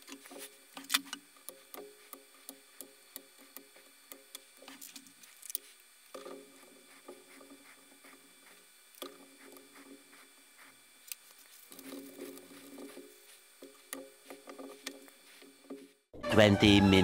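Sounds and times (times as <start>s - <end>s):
cotton swab scrubbing circuit board: 0.0s - 15.9s.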